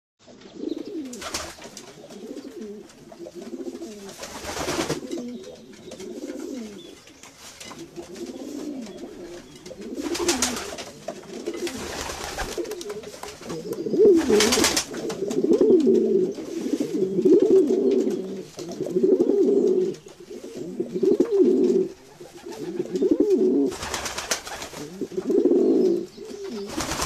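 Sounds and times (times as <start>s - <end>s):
pigeons cooing: 0.3s - 27.0s
rustling: 0.9s - 25.3s.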